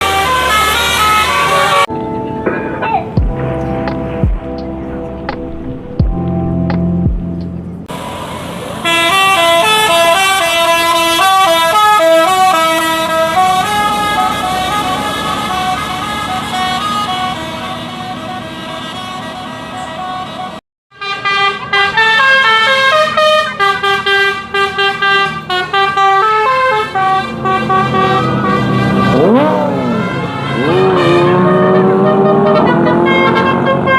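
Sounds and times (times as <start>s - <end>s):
musical bus horn tunes: 0.0s - 5.0s, 8.8s - 33.9s
bus engine running: 0.0s - 20.6s, 22.6s - 33.9s.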